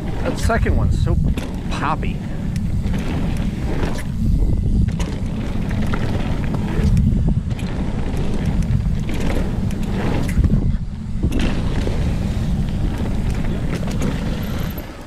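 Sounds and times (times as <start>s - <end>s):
bike clicks and clatters: 0.0s - 15.0s
wind rumble on microphone: 0.0s - 15.0s.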